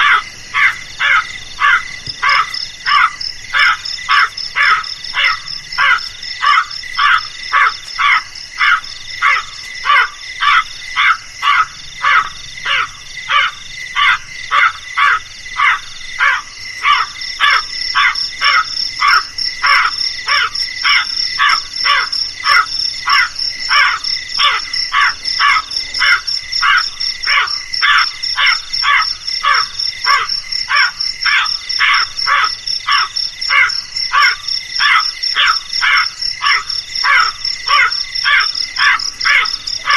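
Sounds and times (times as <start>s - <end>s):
crows calling: 0.0s - 39.9s.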